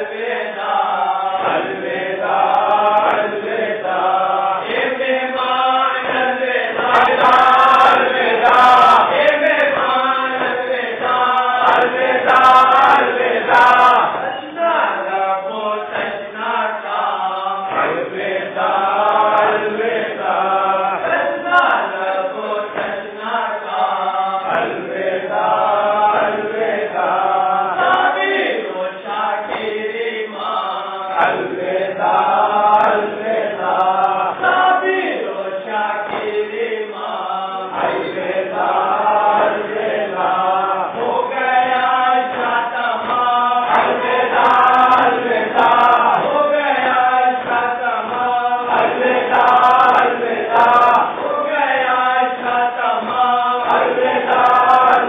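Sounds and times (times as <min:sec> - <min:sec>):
men chanting a lament: 0:00.0 - 0:55.0.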